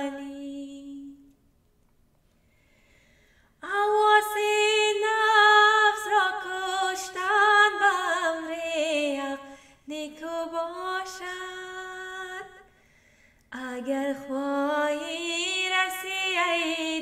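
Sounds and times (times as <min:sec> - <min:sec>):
woman singing unaccompanied: 0:00.0 - 0:01.3, 0:03.6 - 0:12.7, 0:13.5 - 0:17.0.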